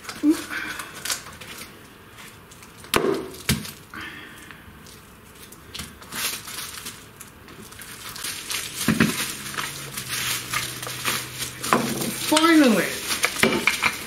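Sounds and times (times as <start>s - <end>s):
plastic packaging crinkling: 0.0s - 3.9s, 4.8s - 14.0s.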